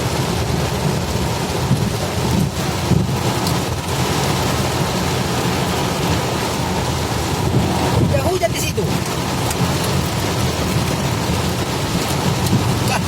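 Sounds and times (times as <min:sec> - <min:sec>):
heavy rain on a vehicle: 0:00.0 - 0:13.0.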